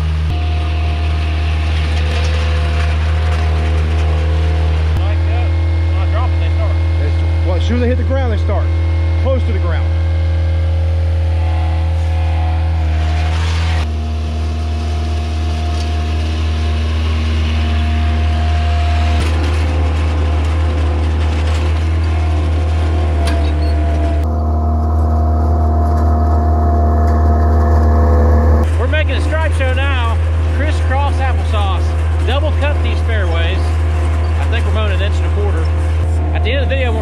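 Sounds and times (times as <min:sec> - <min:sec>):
reel mower cutting grass: 0:00.0 - 0:08.5, 0:11.0 - 0:37.0
mower diesel engine droning: 0:00.0 - 0:37.0.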